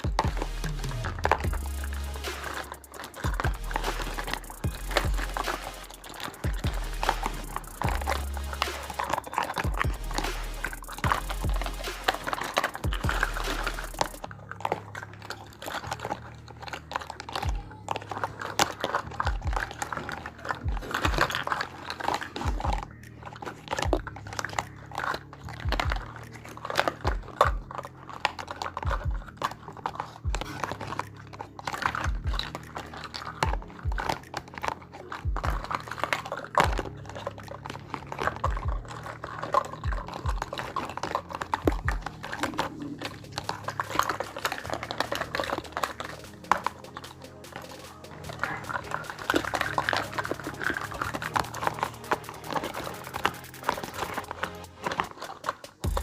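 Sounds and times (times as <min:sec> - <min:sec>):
toy pieces clicking and tapping: 0:00.0 - 0:56.0.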